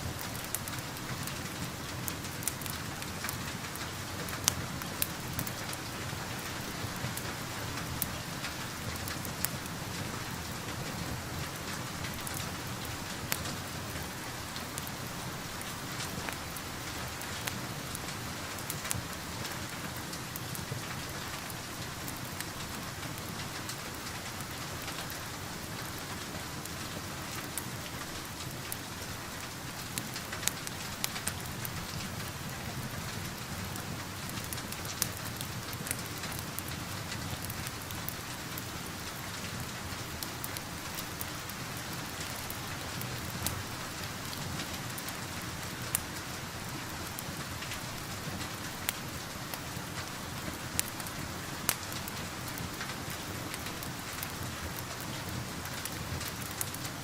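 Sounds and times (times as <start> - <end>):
steady rain falling: 0.0 - 57.0
wood fire popping and crackling: 0.0 - 57.0.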